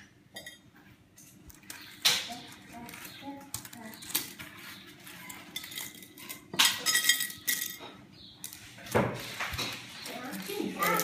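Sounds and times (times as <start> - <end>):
dry pasta clattering on bowl: 1.2 - 11.0.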